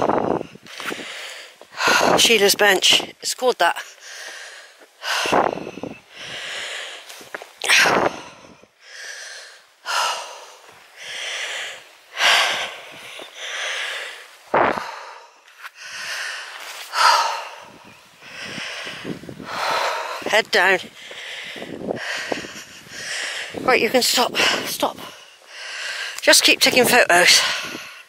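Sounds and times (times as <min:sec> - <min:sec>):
woman breathing heavily: 0:00.0 - 0:03.2, 0:03.8 - 0:28.0.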